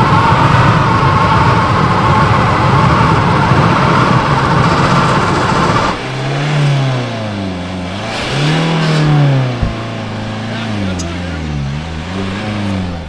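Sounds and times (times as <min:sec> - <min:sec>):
car engine revving in burnout: 0:00.0 - 0:13.0.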